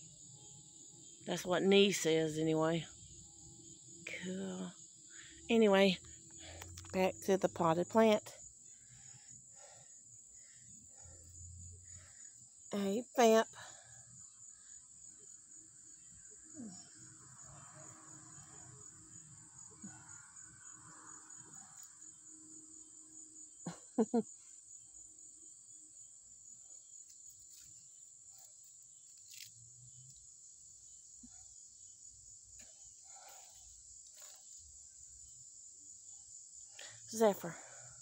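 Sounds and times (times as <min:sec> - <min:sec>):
insects chorus: 0:00.0 - 0:38.0.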